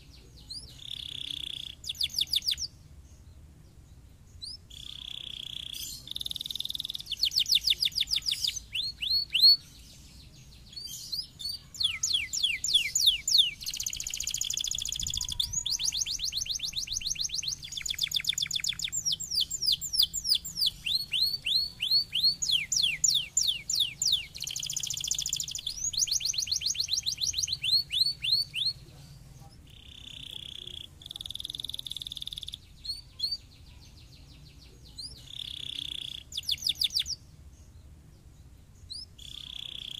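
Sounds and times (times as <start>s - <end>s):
canary singing: 0.0s - 2.8s, 3.7s - 37.3s, 38.2s - 39.9s.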